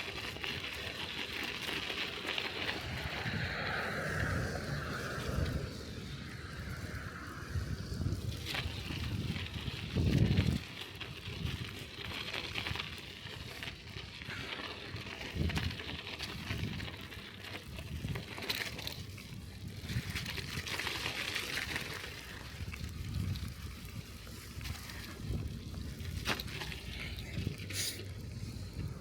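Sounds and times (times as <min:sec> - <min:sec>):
bicycle tyres hissing in slush: 0:00.0 - 0:29.0
wind rumbling on microphone: 0:00.0 - 0:29.0.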